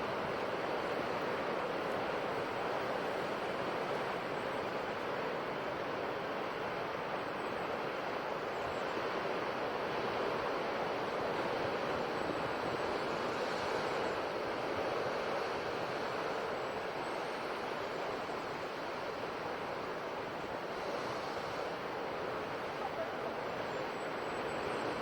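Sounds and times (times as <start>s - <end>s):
sea waves washing on shore: 0.0s - 7.2s, 7.8s - 25.0s.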